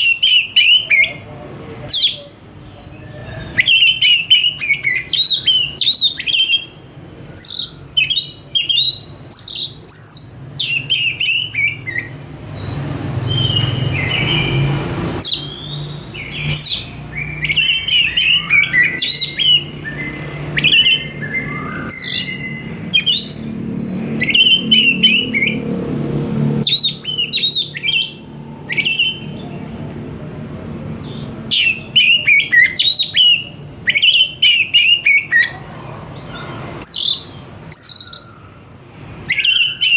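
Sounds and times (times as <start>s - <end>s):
songbird singing whistled phrases: 0.0s - 1.2s, 2.9s - 25.6s, 26.6s - 29.6s, 31.0s - 35.6s, 36.2s - 38.6s, 39.2s - 39.9s.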